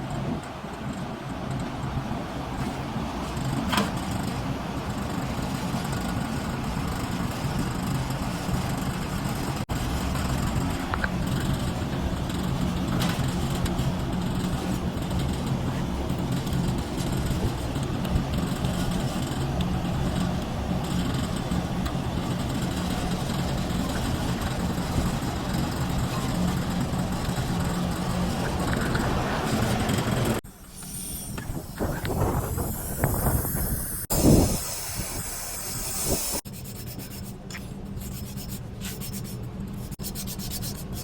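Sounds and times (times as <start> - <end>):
machine hum with rushing noise: 0.0 - 41.0.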